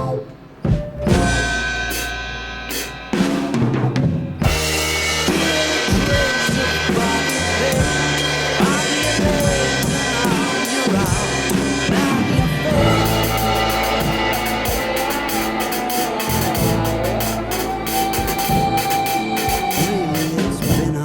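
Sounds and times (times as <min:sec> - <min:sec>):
drum kit playing: 0:00.0 - 0:21.0
rock backing track: 0:00.0 - 0:21.0.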